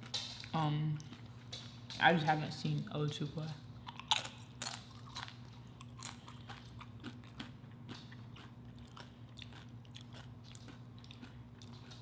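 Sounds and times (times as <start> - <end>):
chewing food with crunching: 0.0 - 2.4, 3.8 - 12.0.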